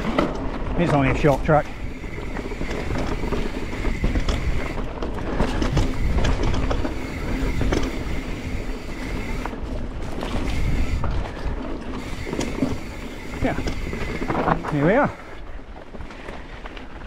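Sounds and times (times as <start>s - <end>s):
bike rattling over stones: 0.0s - 17.0s
bike tyres rumbling on dirt: 0.0s - 17.0s
wind on microphone: 1.7s - 16.5s.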